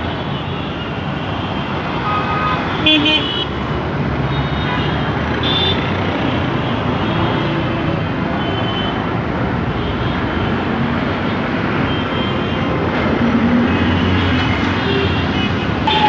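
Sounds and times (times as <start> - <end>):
road traffic roar: 0.0 - 16.0.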